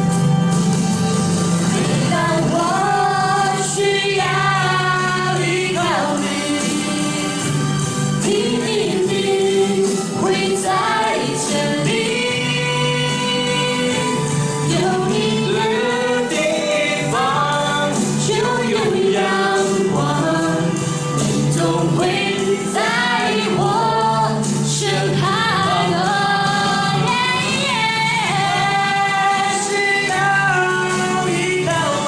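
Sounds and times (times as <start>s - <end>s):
musical accompaniment: 0.0s - 32.0s
choir singing a slow song: 1.7s - 32.0s.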